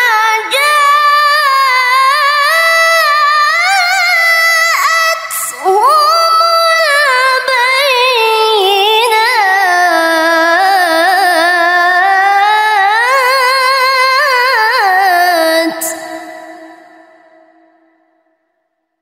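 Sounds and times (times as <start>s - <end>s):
woman reciting melodically: 0.0s - 17.6s.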